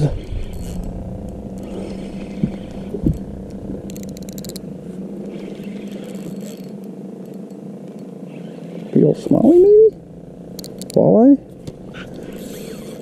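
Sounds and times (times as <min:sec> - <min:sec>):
steady low hum: 0:00.0 - 0:13.0
fishing reel rapid clicking: 0:00.2 - 0:11.2, 0:12.1 - 0:13.0.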